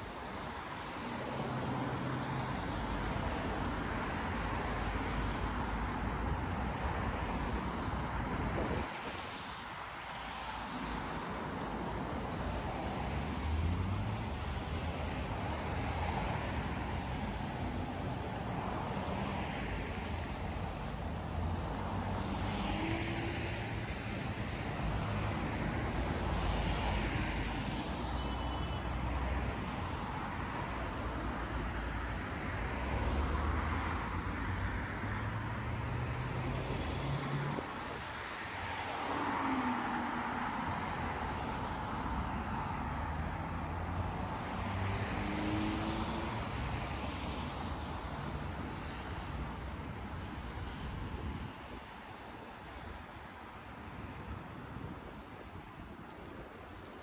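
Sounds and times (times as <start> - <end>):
traffic hum: 0.0 - 57.0
vehicles passing close by: 0.0 - 57.0.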